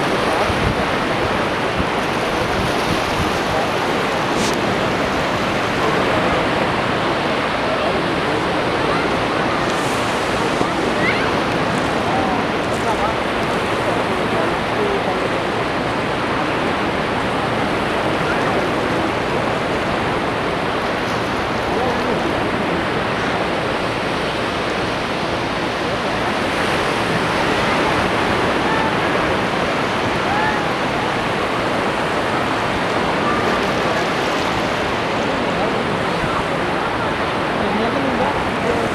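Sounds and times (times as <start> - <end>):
faint voices of people: 0.0 - 38.9
surf washing onto a beach: 0.0 - 38.9.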